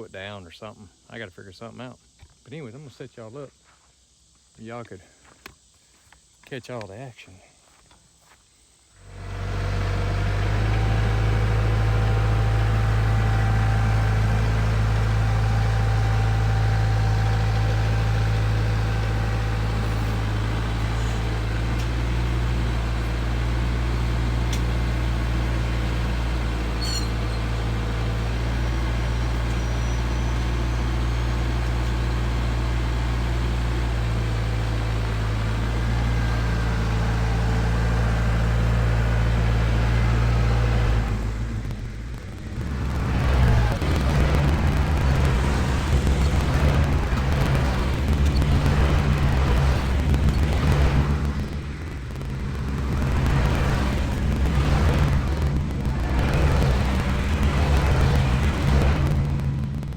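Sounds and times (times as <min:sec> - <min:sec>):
tractor engine running: 0:09.0 - 0:59.9.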